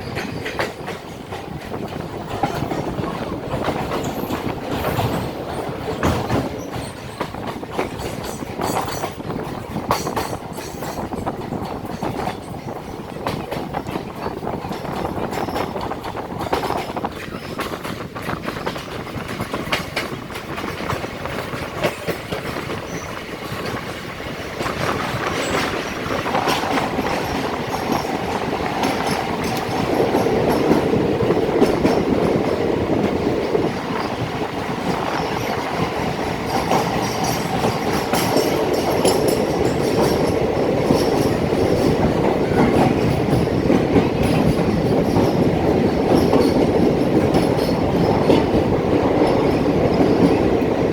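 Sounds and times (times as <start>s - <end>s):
train wheels clattering on rails: 0.0s - 50.9s.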